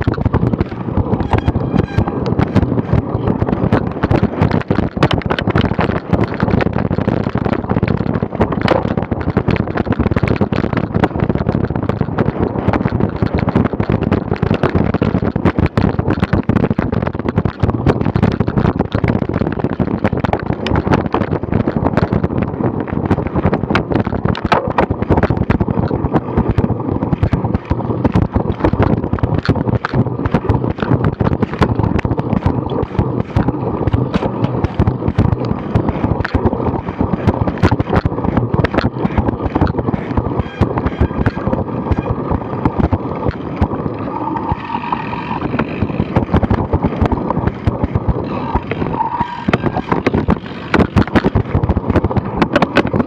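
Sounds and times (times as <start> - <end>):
bike and camera mount rattling: 0.0 - 53.0
rumble of tyres and wind: 0.0 - 53.0.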